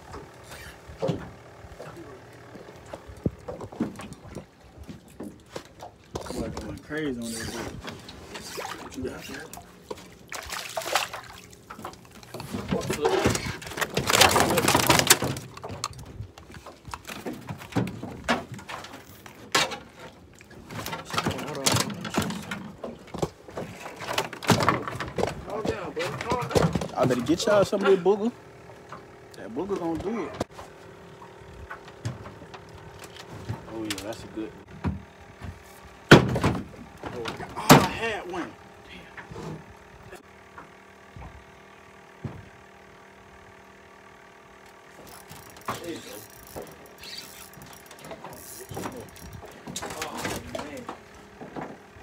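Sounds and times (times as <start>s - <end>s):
low mechanical hum: 0.0s - 52.0s
knocks and clatters on boat deck: 0.9s - 7.0s, 11.6s - 28.0s, 28.8s - 38.5s, 39.1s - 41.5s, 42.2s - 42.6s, 44.9s - 52.0s.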